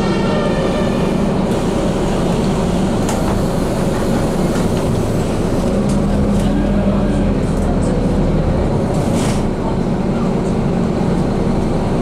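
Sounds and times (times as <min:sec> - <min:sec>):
bus cabin running noise: 0:00.0 - 0:12.0
tram passing: 0:00.0 - 0:12.0.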